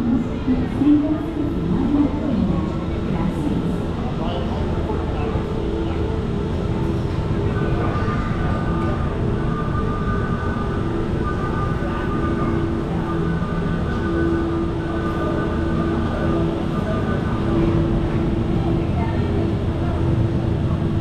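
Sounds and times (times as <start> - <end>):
gondola station machinery rumble: 0.0 - 21.0
machinery whine: 0.0 - 21.0.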